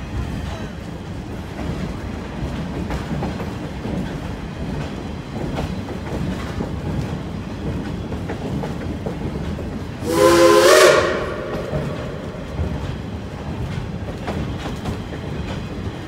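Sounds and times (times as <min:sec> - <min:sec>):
steam train rumbling: 0:00.0 - 0:16.0
train cars clanking over rails: 0:00.0 - 0:16.0.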